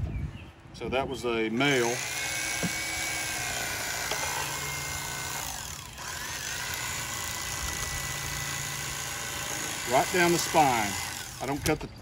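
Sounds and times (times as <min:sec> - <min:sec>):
electric knife whining: 0:01.6 - 0:11.8.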